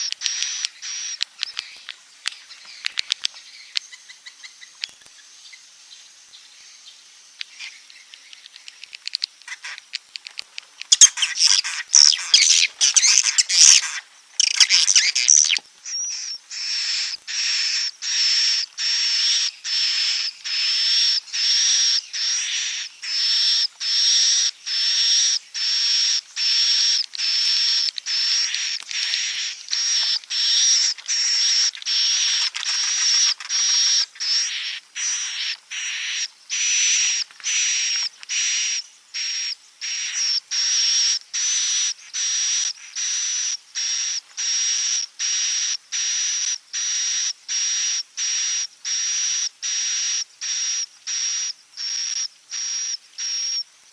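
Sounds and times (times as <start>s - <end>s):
recorded swiftlet chirps: 0.0s - 53.7s.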